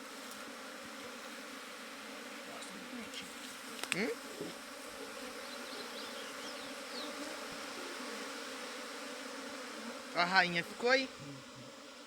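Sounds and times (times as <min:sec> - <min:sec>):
swarm of bees buzzing: 0:00.0 - 0:12.0.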